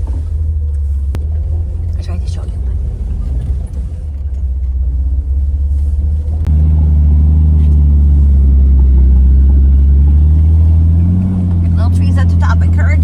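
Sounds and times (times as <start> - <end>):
engine droning under load: 0.0 - 13.0.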